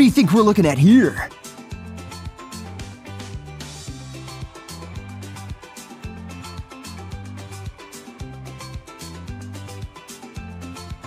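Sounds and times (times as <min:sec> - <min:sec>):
upbeat music with bass: 0:00.0 - 0:11.0.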